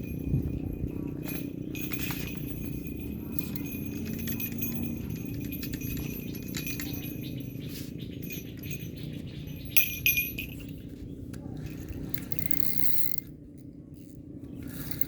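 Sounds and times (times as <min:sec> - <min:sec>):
metallic jingling and clinking: 0:00.0 - 0:13.3, 0:14.0 - 0:15.0
steady low rumble: 0:00.0 - 0:15.0.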